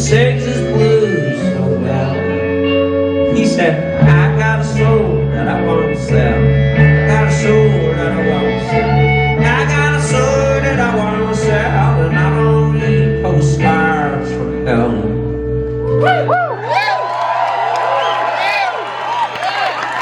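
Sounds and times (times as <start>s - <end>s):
guitar playing: 0.0s - 16.7s
bass line: 0.0s - 17.0s.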